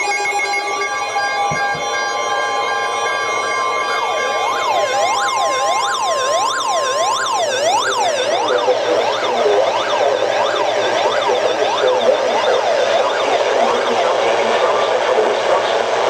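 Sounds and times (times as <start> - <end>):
steady high alarm tone: 0.0 - 16.0
sweeping electronic siren tone: 0.0 - 16.0.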